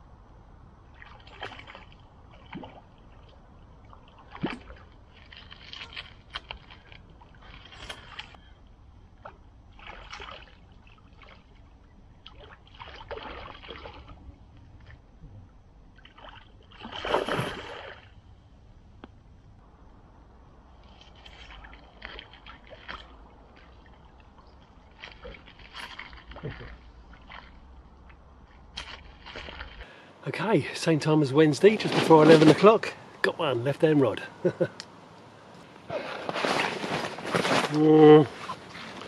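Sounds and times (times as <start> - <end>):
water sloshing and splashing: 0.8 - 18.5, 20.6 - 30.1, 30.8 - 33.5, 35.9 - 39.0.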